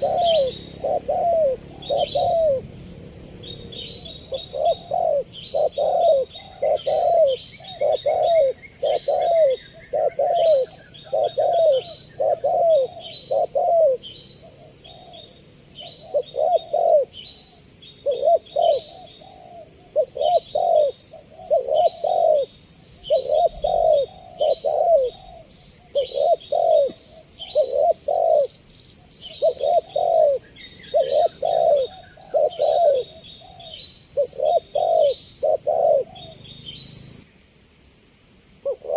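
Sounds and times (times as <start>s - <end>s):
dove cooing: 0.0s - 37.2s, 38.6s - 38.9s
small birds chirping: 0.0s - 37.4s.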